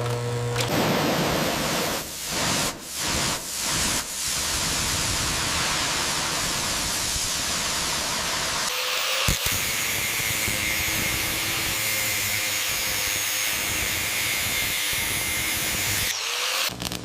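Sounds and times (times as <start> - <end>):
high-pressure spray hissing: 0.8 - 16.6.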